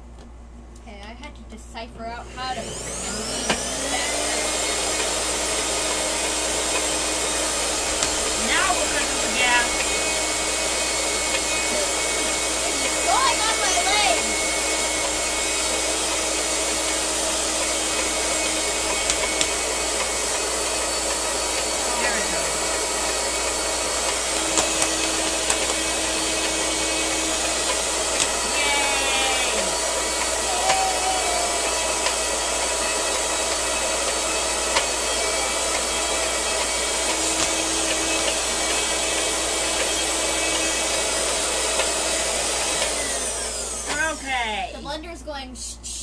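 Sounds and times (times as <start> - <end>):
blender grinding seeds: 2.6 - 44.3.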